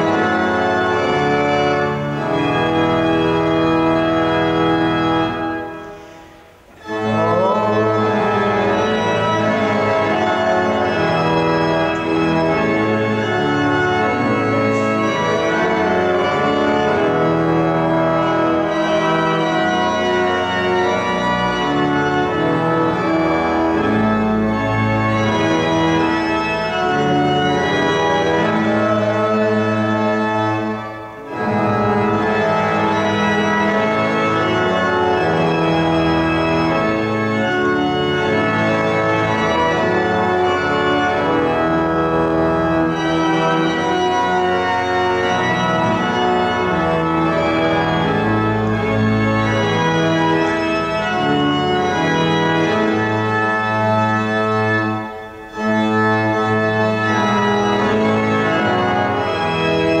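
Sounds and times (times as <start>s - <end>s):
church organ chords: 0.0s - 60.0s.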